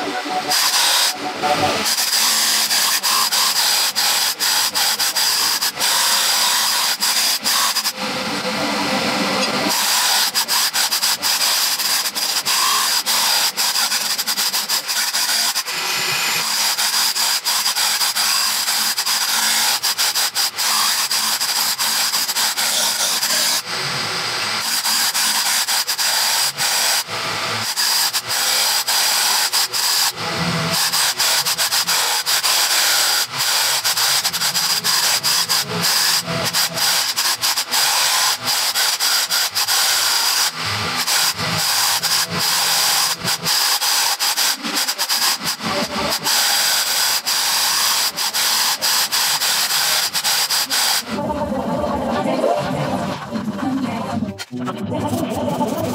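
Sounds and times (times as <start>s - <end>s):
electric jack hammer hammering: 0.0s - 51.2s.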